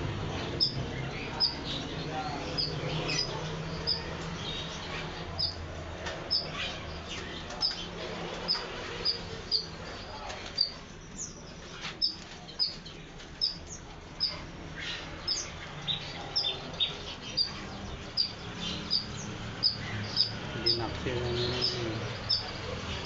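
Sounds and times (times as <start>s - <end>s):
reed warbler chirping: 0.0s - 5.7s, 6.3s - 23.0s.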